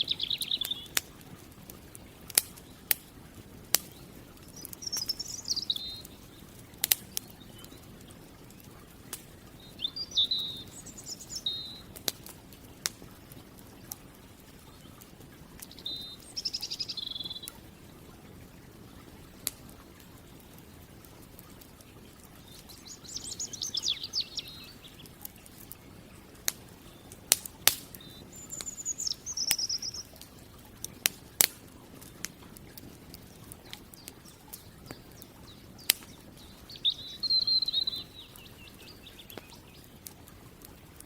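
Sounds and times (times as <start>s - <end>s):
campfire crackling: 0.0s - 41.0s
songbirds trilling: 0.0s - 41.0s.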